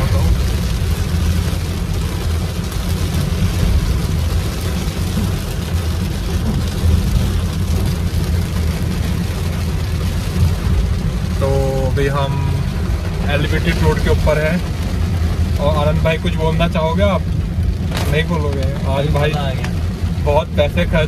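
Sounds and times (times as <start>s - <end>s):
car driving rumble: 0.0s - 21.0s
heavy rain on car roof: 0.0s - 21.0s.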